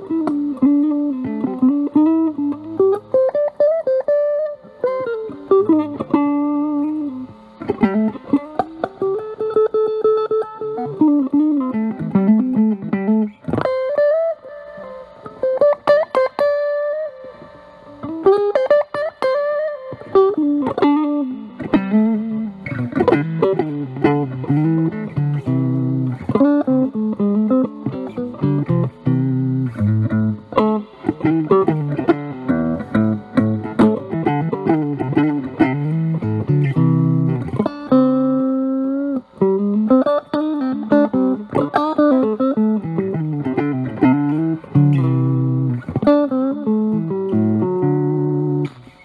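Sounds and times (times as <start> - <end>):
fuzz electric guitar lead lines: 0.0 - 49.0.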